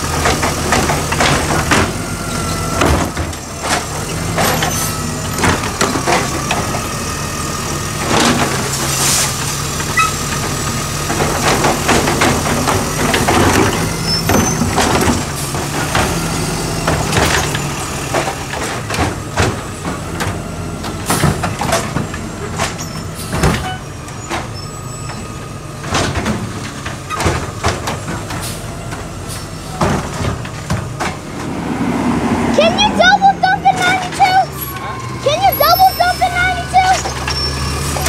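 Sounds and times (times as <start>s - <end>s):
garbage truck engine running: 0.0s - 38.0s.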